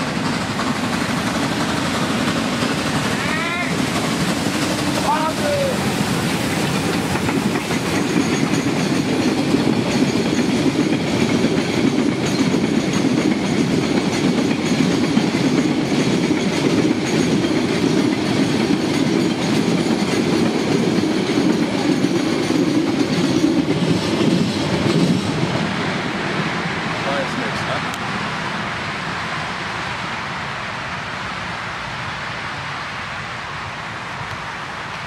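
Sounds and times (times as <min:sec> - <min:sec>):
train wheels on track: 0:00.0 - 0:35.0.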